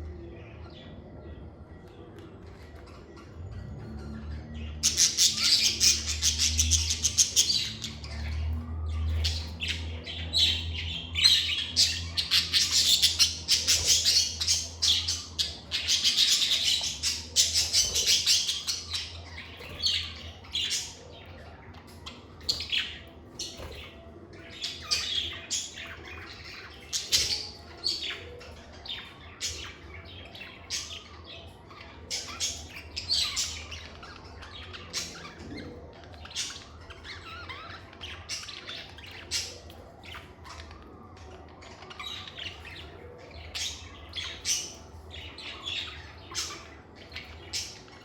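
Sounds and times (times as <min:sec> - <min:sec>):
lovebirds chirping and squawking: 0:00.0 - 0:48.0.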